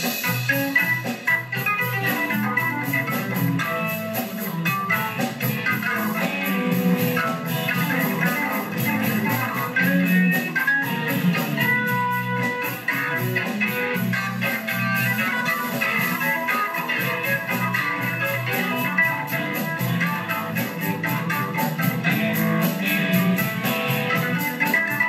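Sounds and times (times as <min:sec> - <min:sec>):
drums keeping a steady beat: 0:00.0 - 0:25.0
electric guitar: 0:00.0 - 0:25.0
keyboards: 0:00.0 - 0:25.0.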